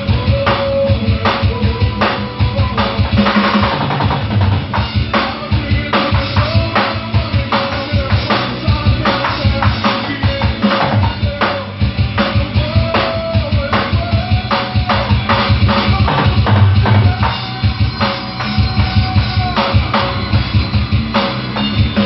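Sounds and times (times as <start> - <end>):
backing music: 0.0 - 22.0
drum kit groove: 0.0 - 22.0.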